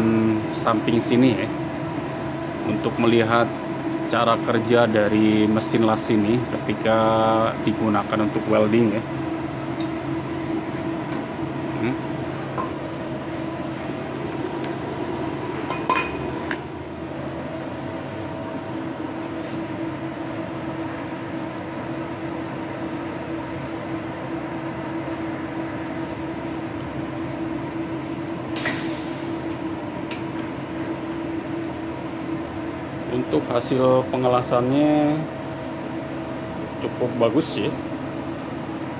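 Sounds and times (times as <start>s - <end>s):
welding machine hum: 0.0s - 33.3s.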